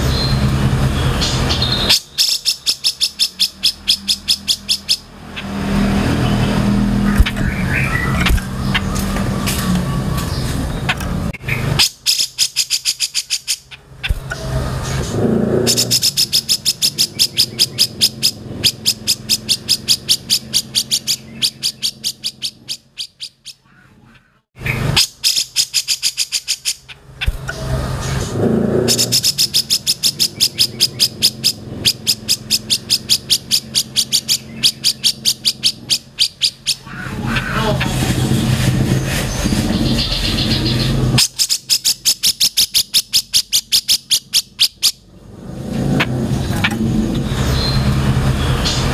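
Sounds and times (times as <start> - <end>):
bird chattering song: 0.0 - 45.1.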